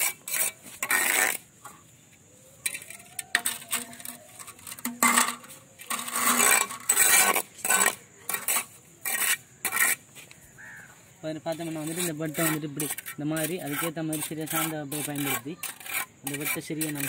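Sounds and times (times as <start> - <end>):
trowel scraping mortar and bricks: 0.0 - 17.0.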